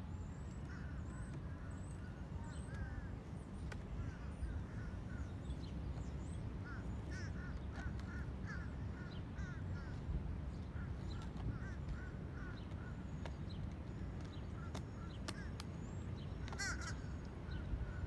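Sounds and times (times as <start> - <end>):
steady low rumble: 0.0 - 18.0
crows calling: 0.6 - 3.3, 3.9 - 13.3, 14.0 - 15.7, 16.4 - 18.0.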